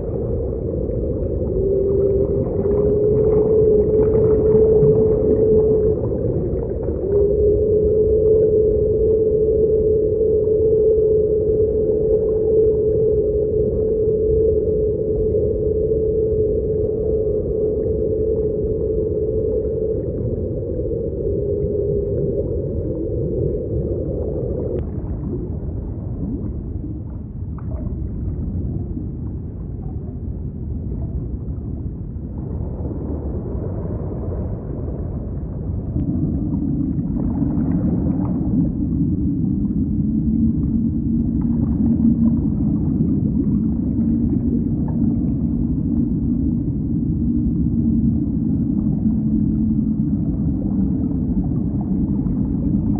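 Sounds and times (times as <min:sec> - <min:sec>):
deep underwater rumble: 0:00.0 - 0:52.9
low whale-like moans: 0:00.0 - 0:52.9.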